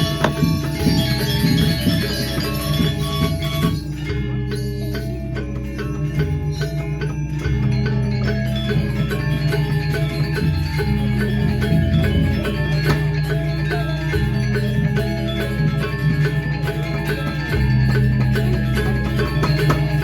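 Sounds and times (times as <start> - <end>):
gamelan playing: 0.0 - 20.0.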